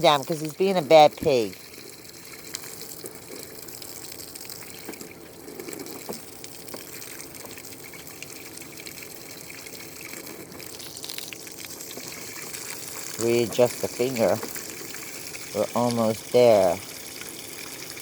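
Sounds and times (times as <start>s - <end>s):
water splashes: 0.0s - 18.0s.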